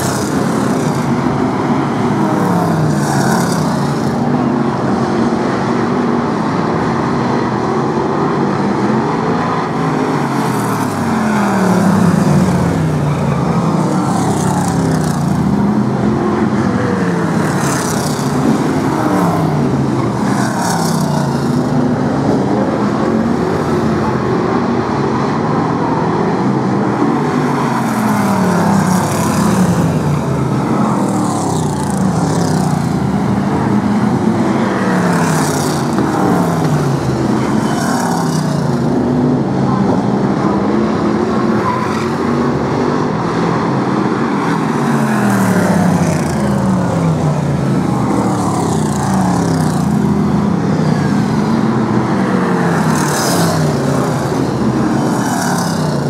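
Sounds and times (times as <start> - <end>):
race car engines at full throttle: 0.0 - 56.0.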